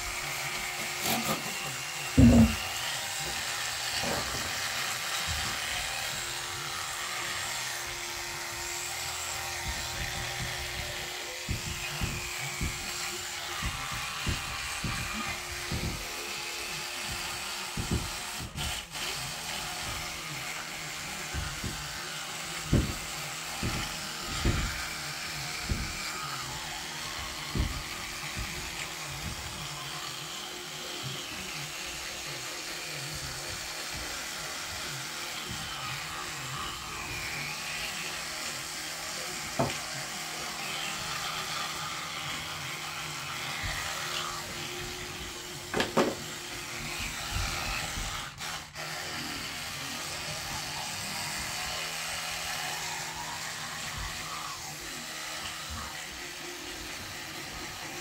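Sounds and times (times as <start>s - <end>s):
electric toothbrush buzzing: 0.0s - 58.0s.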